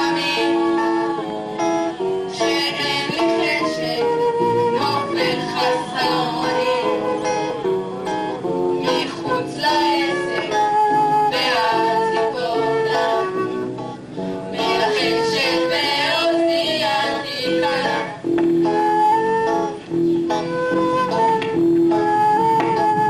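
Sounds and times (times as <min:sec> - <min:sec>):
guitar-backed song: 0:00.0 - 0:23.0.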